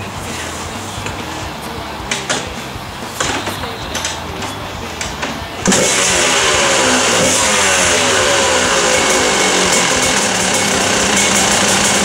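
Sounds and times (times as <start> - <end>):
dirt bike engine revving and running: 0.0 - 12.0.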